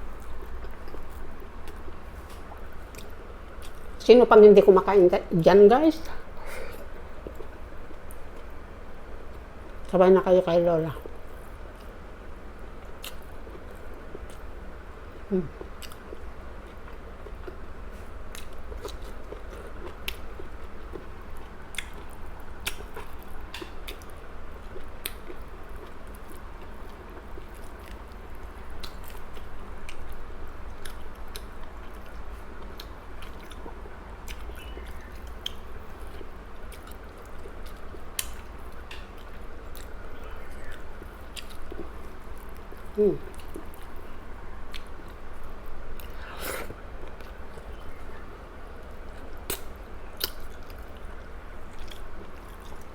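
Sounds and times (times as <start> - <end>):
person chewing food: 0.0 - 3.9, 12.8 - 48.2, 48.8 - 52.9.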